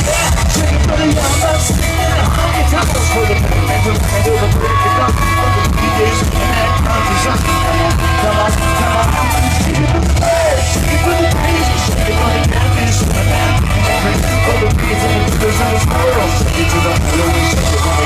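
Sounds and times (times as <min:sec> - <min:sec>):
heavy steady beat: 0:00.0 - 0:18.0
loud music with singing: 0:00.0 - 0:18.0.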